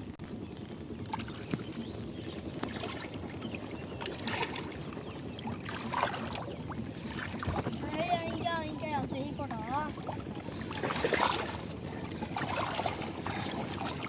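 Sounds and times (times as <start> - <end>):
water sloshing as someone wades: 1.0 - 14.0.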